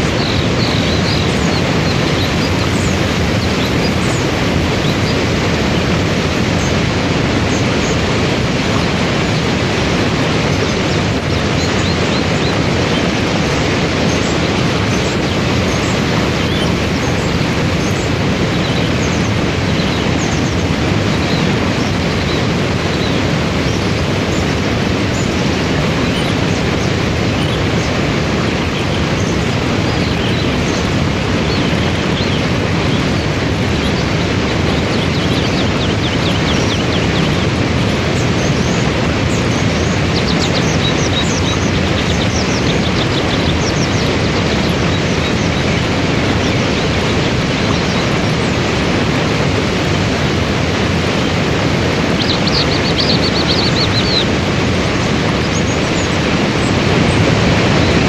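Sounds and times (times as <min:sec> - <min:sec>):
waterfall and rapids rushing: 0:00.0 - 0:58.0.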